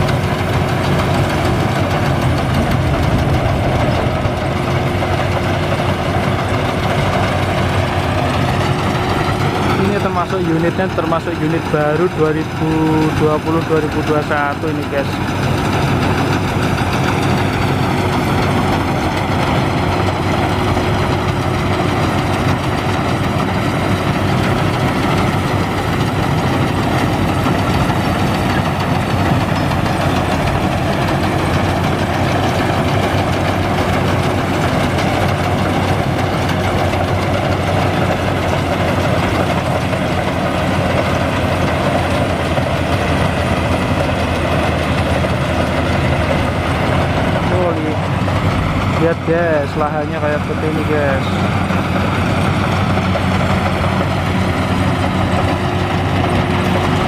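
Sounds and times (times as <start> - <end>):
harvester engine droning: 0.0 - 57.0.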